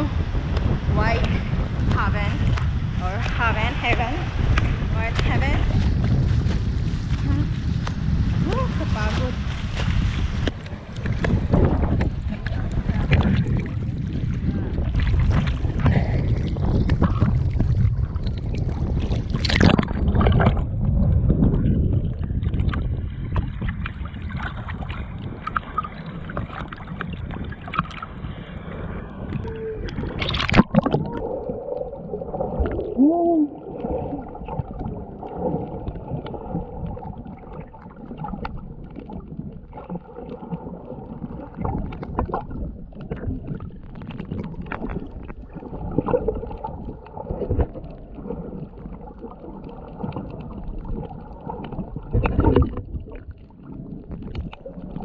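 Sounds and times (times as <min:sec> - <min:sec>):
muffled underwater sound: 0:00.0 - 0:55.0
water sloshing and gurgling: 0:00.0 - 0:55.0.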